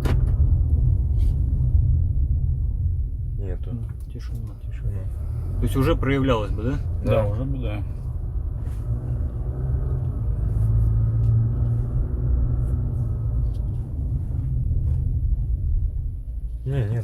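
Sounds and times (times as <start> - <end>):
car road rumble from inside: 0.0 - 17.0.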